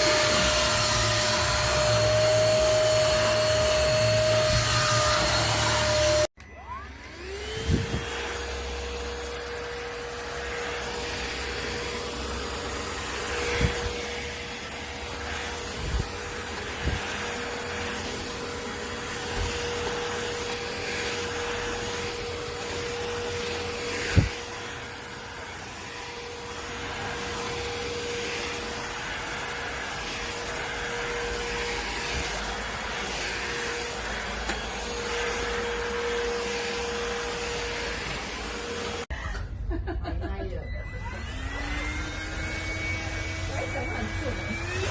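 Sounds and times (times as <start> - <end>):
handheld vacuum cleaner running: 0.0 - 39.2, 40.7 - 44.9.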